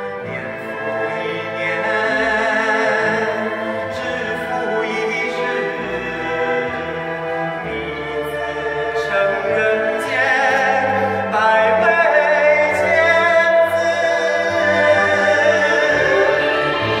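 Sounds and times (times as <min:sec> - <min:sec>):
man singing with vibrato: 0:00.0 - 0:07.3, 0:07.9 - 0:17.0
cello and double bass: 0:00.0 - 0:17.0.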